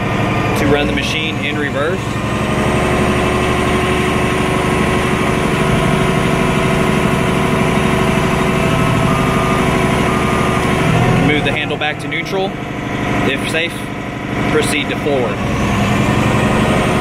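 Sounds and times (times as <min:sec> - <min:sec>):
dozer diesel engine running: 0:00.0 - 0:17.0.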